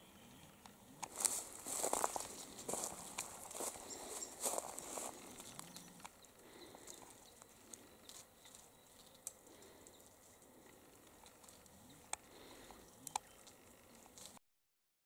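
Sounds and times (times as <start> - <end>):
faint bush ambience: 0.0 - 14.4.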